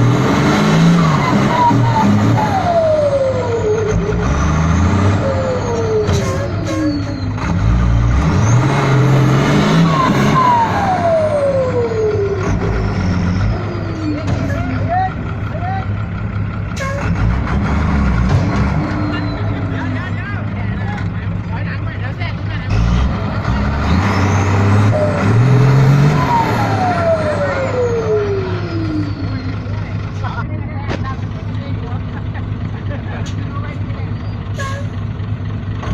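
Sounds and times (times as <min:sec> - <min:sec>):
diesel truck engine revving: 0:00.0 - 0:35.9.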